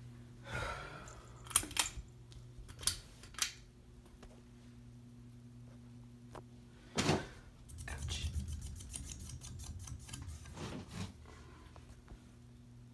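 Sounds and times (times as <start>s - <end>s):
ceiling fan motor humming: 0.0s - 12.9s.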